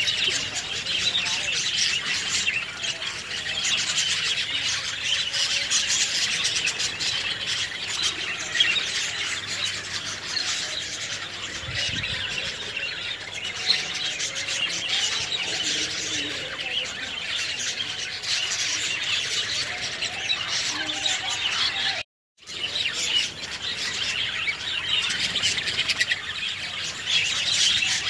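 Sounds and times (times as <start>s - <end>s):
birds squawking: 0.0s - 28.0s.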